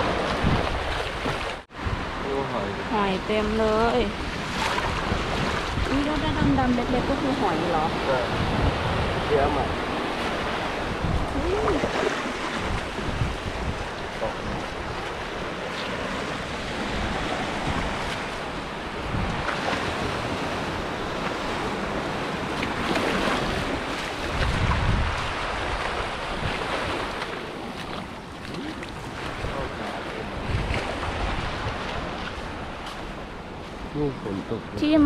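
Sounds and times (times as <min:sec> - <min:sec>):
sea waves washing onto beach: 0:00.0 - 0:35.0
wind buffeting microphone: 0:00.0 - 0:35.0.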